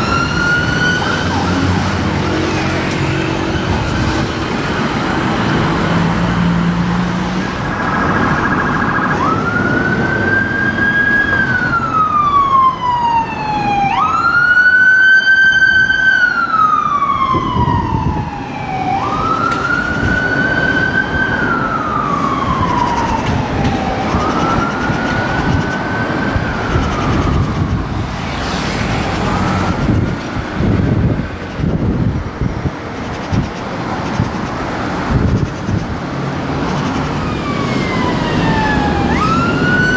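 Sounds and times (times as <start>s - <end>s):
ambulance siren wailing: 0.0s - 6.8s, 7.4s - 30.2s, 36.9s - 39.9s
city traffic noise: 0.0s - 39.9s.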